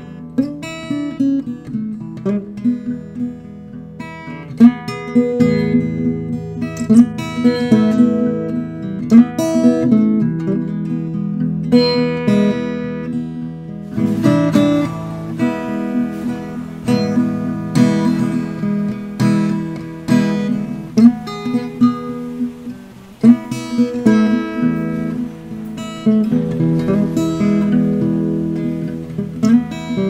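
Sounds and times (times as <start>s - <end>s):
blues acoustic guitar: 0.0s - 30.0s.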